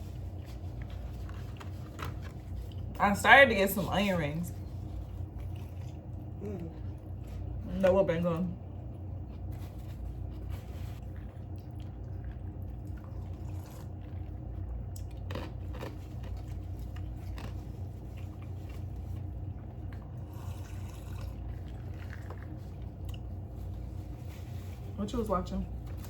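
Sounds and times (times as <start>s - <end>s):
chewing and biting food: 0.0s - 3.0s, 4.6s - 7.6s, 8.8s - 24.0s
steady low hum: 0.0s - 26.0s.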